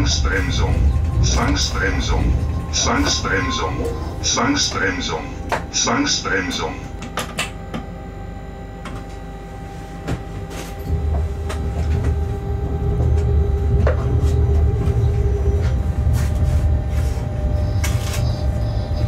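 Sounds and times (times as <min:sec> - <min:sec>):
locomotive low rumble: 0:00.0 - 0:19.0
steady hum: 0:00.0 - 0:19.0.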